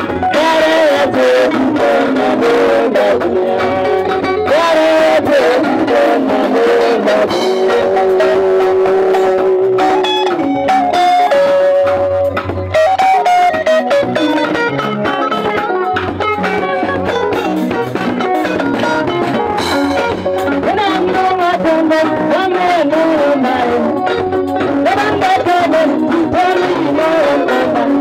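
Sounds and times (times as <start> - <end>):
bass line: 0.0 - 28.0
drum kit: 0.0 - 28.0
guitar: 0.0 - 28.0
live band playing: 0.0 - 28.0.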